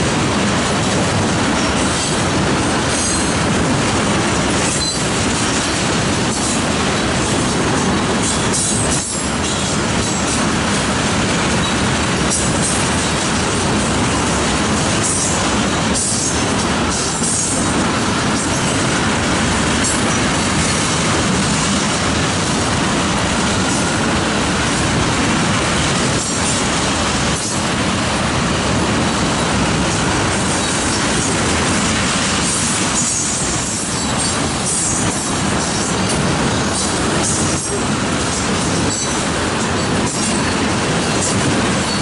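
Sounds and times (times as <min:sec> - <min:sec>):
freight train wheels rumbling: 0:00.0 - 0:42.0.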